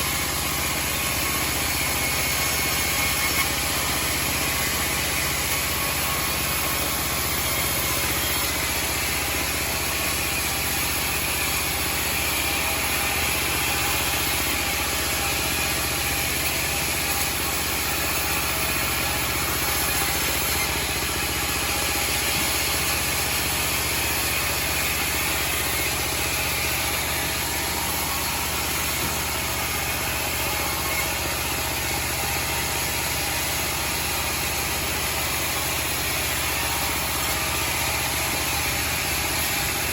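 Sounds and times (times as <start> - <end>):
bandsaw sawmill engine drone: 0.0 - 39.9.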